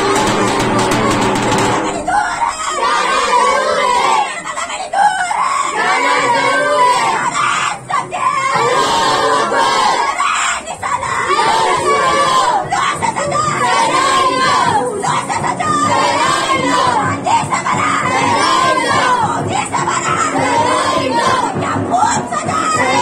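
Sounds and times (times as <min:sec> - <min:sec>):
crowd shouting chants: 0:00.0 - 0:23.0.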